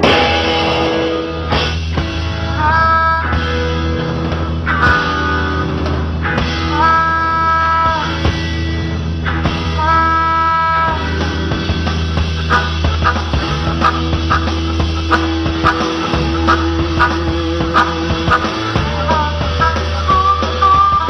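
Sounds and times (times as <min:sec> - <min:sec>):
blues harmonica sliding notes: 0:00.0 - 0:21.0
rock band playing live: 0:00.0 - 0:21.0.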